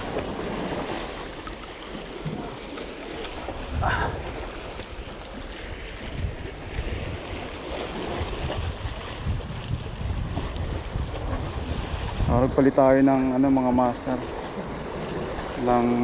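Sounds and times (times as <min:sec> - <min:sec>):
waves washing against rocks: 0:00.0 - 0:16.0
wind buffeting microphone: 0:03.2 - 0:16.0.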